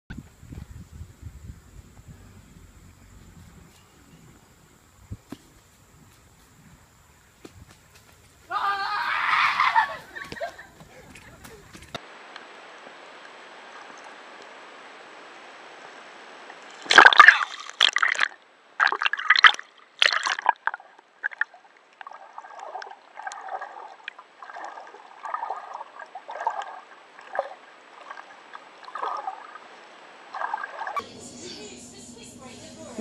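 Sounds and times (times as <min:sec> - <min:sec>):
water splashing and sloshing: 0:01.8 - 0:31.0.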